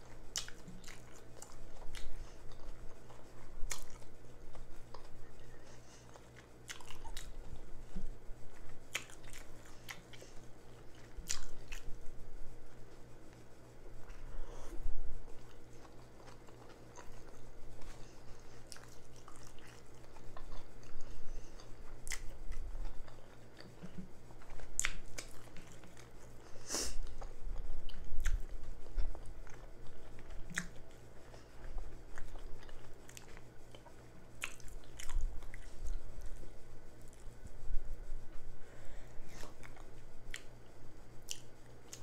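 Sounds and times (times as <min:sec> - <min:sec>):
chewing and mouth smacking: 0:00.0 - 0:12.0, 0:15.3 - 0:26.4, 0:27.0 - 0:37.4, 0:39.3 - 0:42.0.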